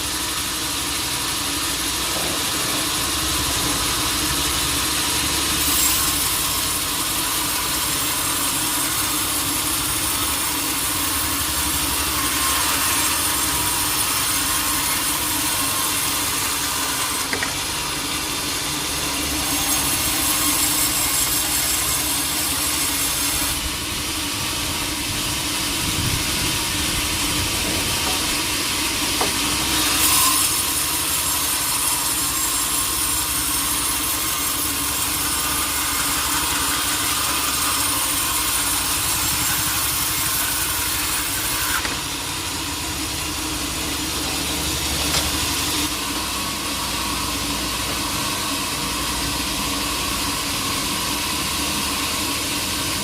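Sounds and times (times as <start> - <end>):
saw cutting through wood: 0.0 - 53.0.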